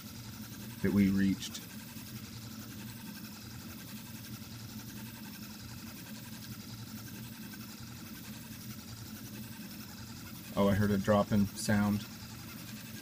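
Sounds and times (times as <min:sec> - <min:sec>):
stepper motors humming: 0:00.0 - 0:13.0.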